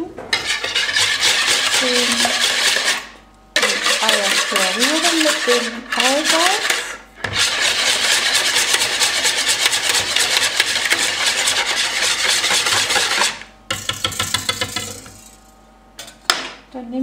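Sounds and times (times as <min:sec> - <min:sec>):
whisk beating eggs in plastic bowl: 0:00.4 - 0:15.3.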